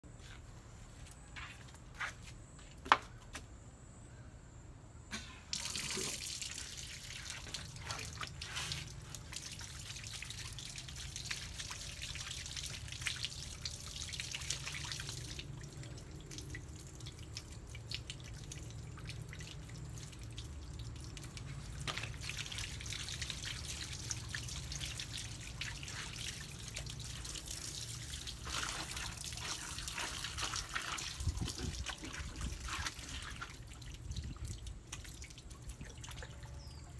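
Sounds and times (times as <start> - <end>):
water splashing from hose: 5.5 - 36.8
water dripping: 5.5 - 36.9.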